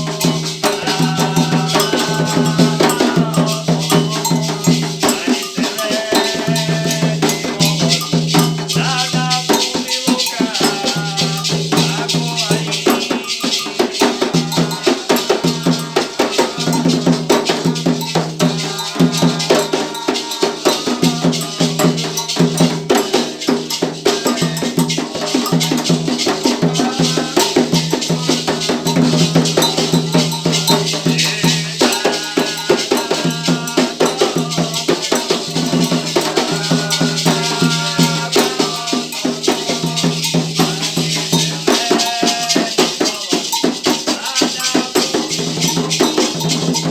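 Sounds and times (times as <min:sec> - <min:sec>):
rattles shaking: 0:00.0 - 0:46.9
voices singing: 0:00.0 - 0:46.9.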